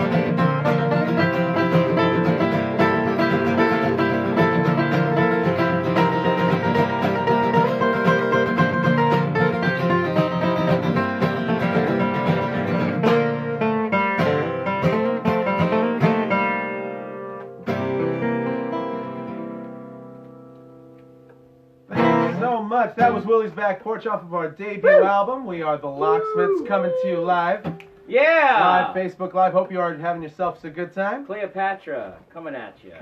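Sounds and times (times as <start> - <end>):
acoustic guitar bluegrass music: 0.0 - 30.6.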